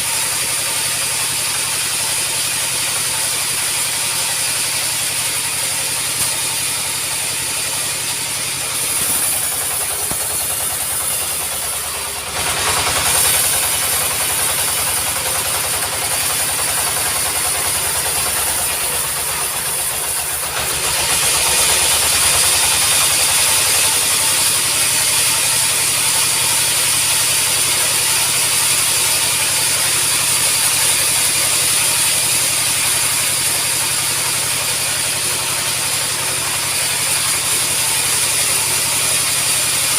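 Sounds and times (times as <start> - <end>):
sawmill sawing wood: 0.0 - 39.9.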